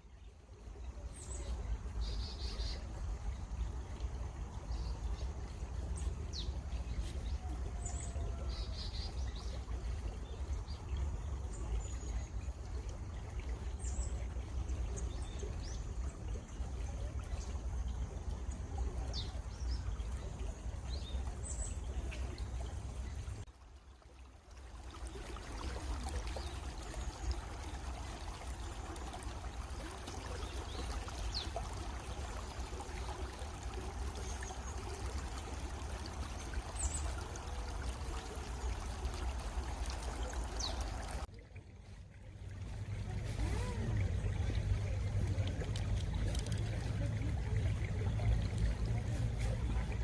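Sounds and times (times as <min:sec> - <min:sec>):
running water: 0:00.0 - 0:50.0.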